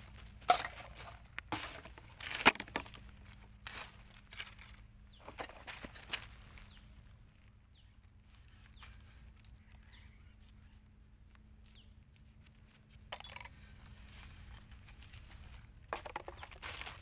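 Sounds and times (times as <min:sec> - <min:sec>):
footsteps crunching on litter: 0:00.0 - 0:17.0
rustle: 0:00.0 - 0:17.0.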